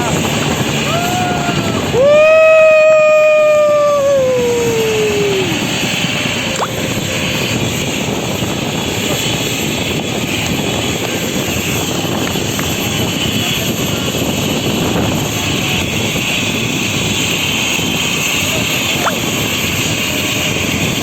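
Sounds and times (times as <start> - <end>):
helicopter rotor and turbine noise: 0.0 - 21.0
high turbine whine: 0.0 - 21.0.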